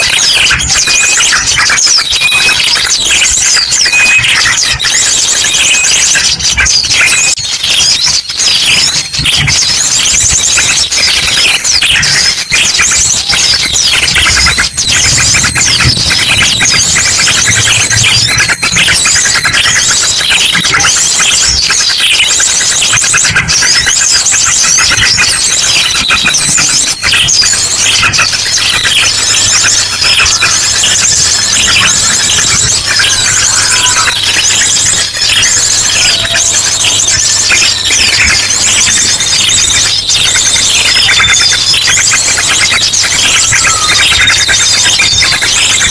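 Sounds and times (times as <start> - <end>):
rapid-fire bird song bursts: 0.0 - 45.9
small songbirds chirping: 0.0 - 45.9.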